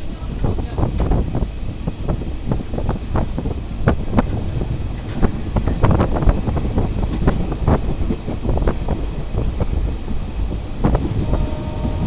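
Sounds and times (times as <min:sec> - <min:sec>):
train rumbling and clattering: 0:00.0 - 0:12.0
wind on microphone: 0:00.0 - 0:12.0.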